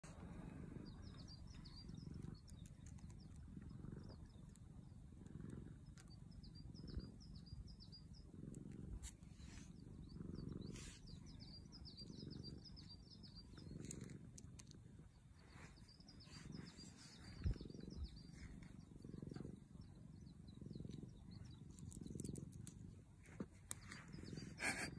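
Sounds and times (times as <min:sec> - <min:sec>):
cat purring: 0:00.0 - 0:24.9
small birds chirping: 0:00.0 - 0:24.9.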